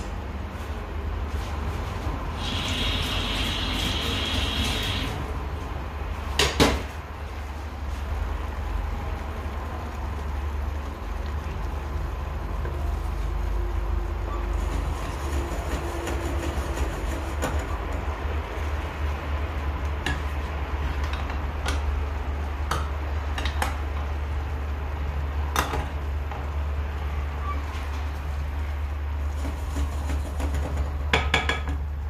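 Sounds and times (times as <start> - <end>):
stove rumble and hiss: 0.0 - 32.0.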